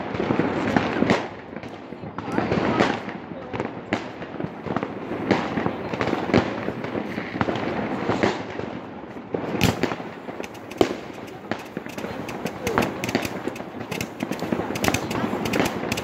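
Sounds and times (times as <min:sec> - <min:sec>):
firecrackers crackling: 0:00.0 - 0:16.0
fireworks bangs and cracks: 0:00.0 - 0:16.0.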